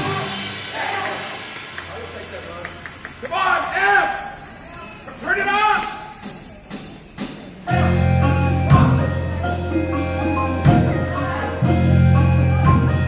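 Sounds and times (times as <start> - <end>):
loud percussion hits: 0.0 - 13.0
wind band music: 0.0 - 13.0.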